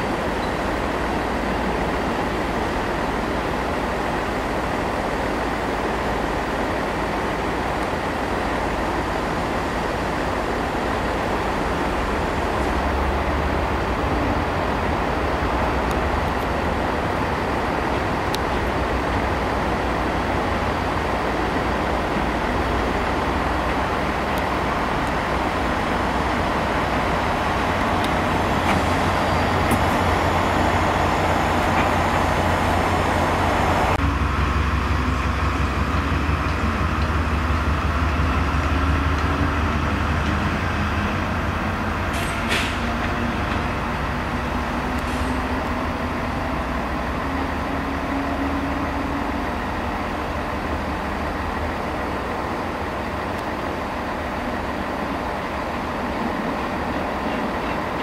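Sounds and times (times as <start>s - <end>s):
locomotive engine rumble: 0.0s - 58.0s.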